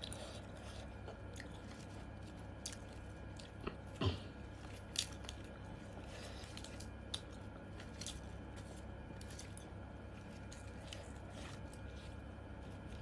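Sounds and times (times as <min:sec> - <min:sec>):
low hum: 0:00.0 - 0:13.0
person chewing: 0:00.0 - 0:13.0.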